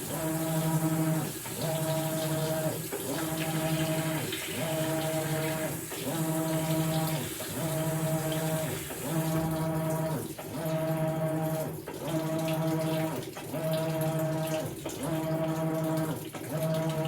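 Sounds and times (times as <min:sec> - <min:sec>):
washing machine motor humming: 0:00.0 - 0:17.0.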